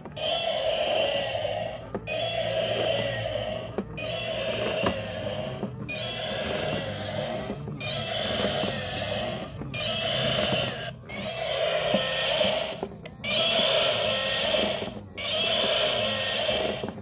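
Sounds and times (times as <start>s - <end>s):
faint ticking of toy gears: 0.0s - 17.0s
tinny recorded animal sound: 0.2s - 16.9s.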